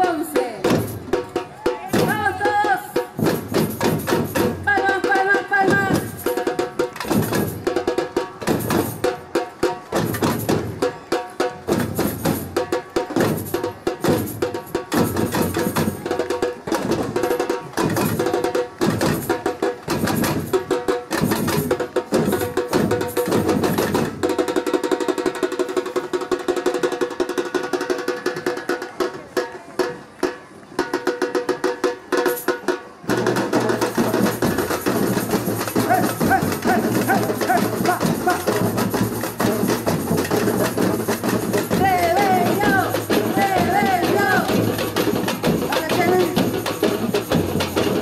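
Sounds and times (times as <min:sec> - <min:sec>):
samba drums playing: 0:00.0 - 0:48.0.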